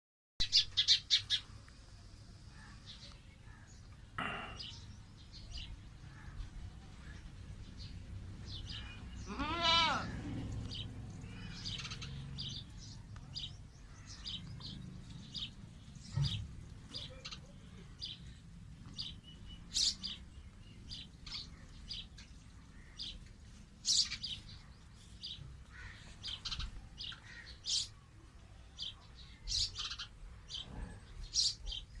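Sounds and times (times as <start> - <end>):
sparrows chirping: 0.4 - 32.0.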